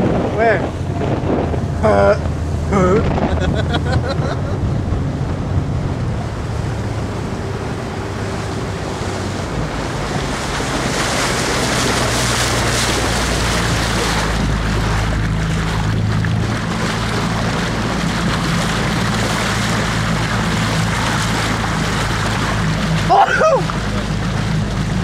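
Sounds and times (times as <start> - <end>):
motorboat engine drone: 0.0 - 25.0
rushing water: 0.0 - 25.0
wind buffeting microphone: 0.0 - 25.0.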